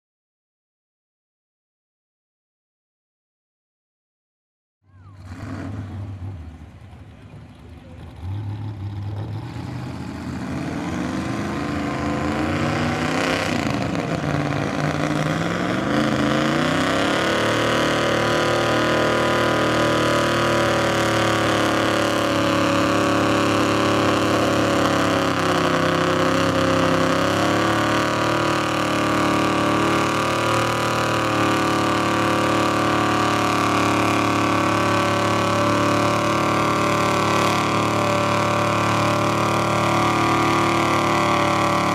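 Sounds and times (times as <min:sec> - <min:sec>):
truck engine revving: 0:04.9 - 0:41.9.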